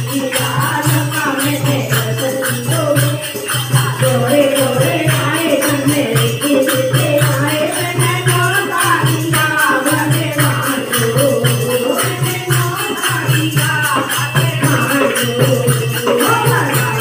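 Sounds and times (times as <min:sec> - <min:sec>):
jingling hand percussion: 0:00.0 - 0:17.0
women singing together: 0:00.0 - 0:17.0.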